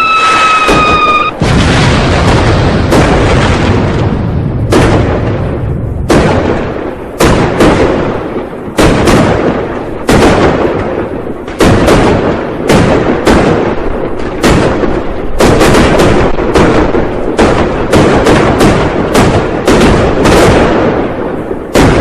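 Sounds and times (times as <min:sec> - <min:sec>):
firecrackers banging: 0:00.0 - 0:22.0
fireworks crackle: 0:00.0 - 0:22.0.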